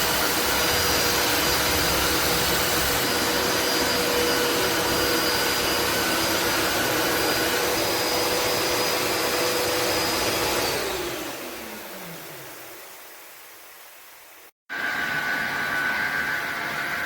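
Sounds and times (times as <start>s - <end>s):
floor vacuum motor whining: 0.0s - 13.0s, 14.7s - 17.0s.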